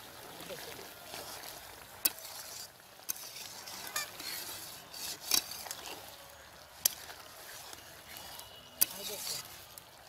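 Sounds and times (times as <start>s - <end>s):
curry sizzling in pan: 0.0s - 10.0s.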